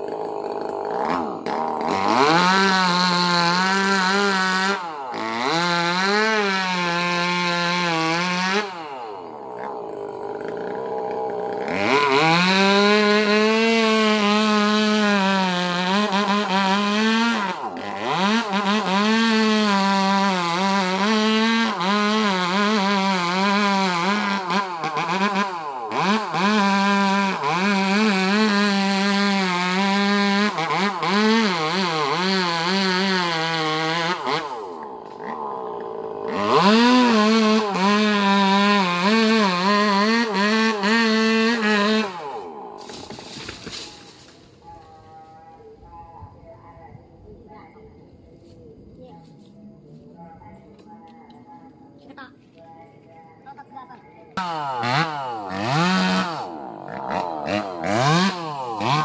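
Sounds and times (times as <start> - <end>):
chainsaw cutting wood: 0.0 - 45.1, 54.4 - 59.0.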